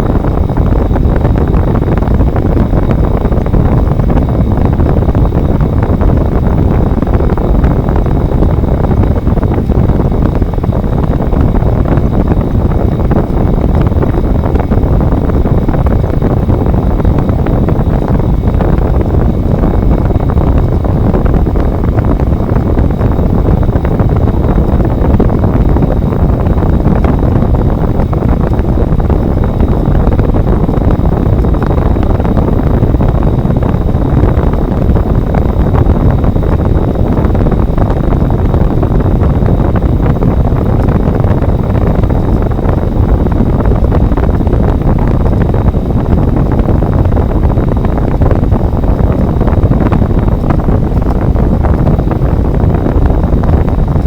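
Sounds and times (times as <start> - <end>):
air conditioner fan rushing: 0.0 - 54.0.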